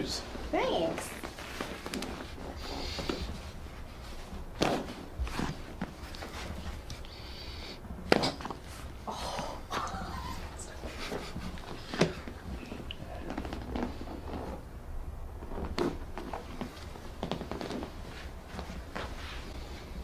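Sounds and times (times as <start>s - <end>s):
low steady hum: 0.0s - 20.0s
rustling of people moving: 0.0s - 20.0s.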